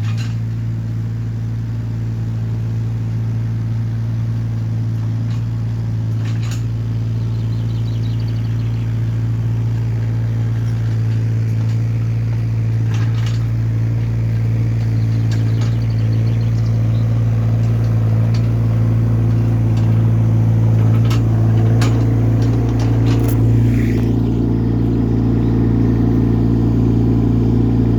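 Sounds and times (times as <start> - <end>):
excavator diesel engine: 0.0 - 27.9.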